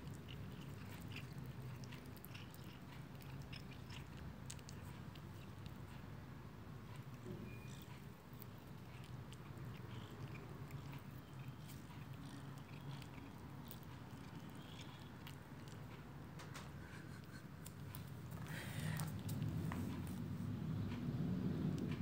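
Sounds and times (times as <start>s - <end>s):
cat chewing grass: 0.0s - 22.0s
low steady hum: 0.0s - 22.0s.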